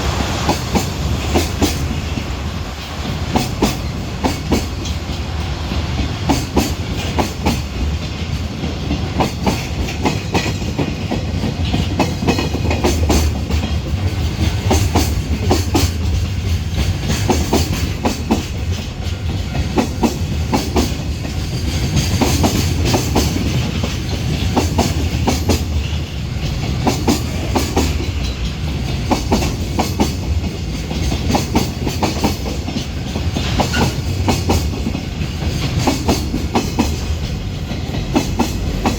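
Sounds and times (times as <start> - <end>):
low rumble of train: 0.0 - 38.9
train wheels clacking over rail joints: 0.0 - 38.9.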